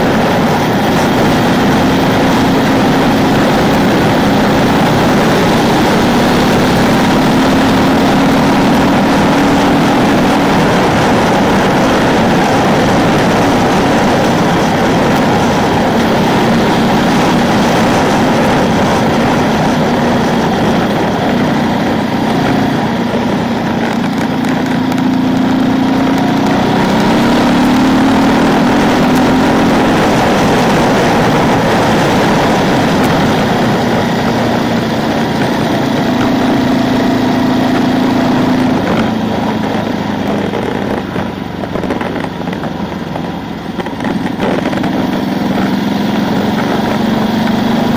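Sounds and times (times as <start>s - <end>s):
motorcycle engine pulling: 0.0s - 47.9s
wind rush: 0.0s - 47.9s.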